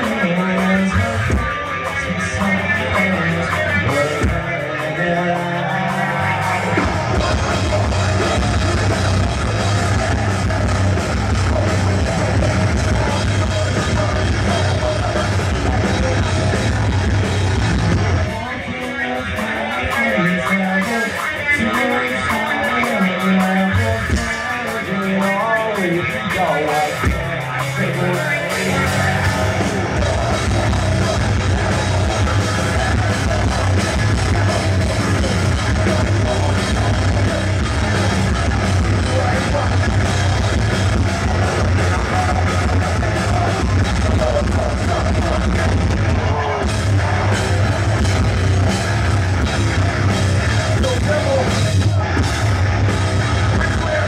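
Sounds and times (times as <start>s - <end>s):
heavy metal band playing: 0.0s - 54.0s.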